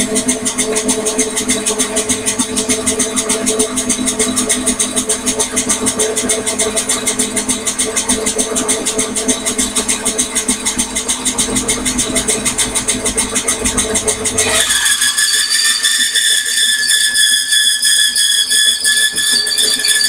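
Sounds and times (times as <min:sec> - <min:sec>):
bandsaw motor pulsing hum: 0:00.0 - 0:20.0.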